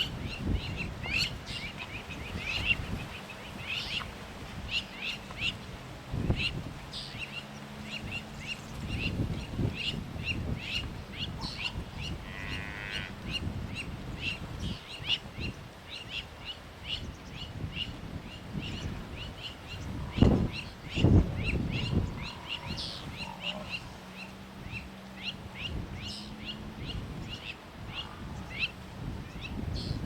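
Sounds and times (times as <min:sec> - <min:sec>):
birds chirping: 0:00.0 - 0:30.0
wind rumbling on microphone: 0:00.0 - 0:30.0.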